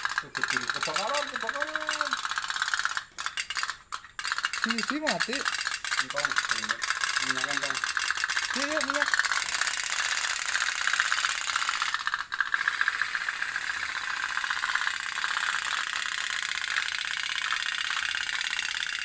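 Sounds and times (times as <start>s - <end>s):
toy boat engine putt-putting: 0.0s - 19.0s.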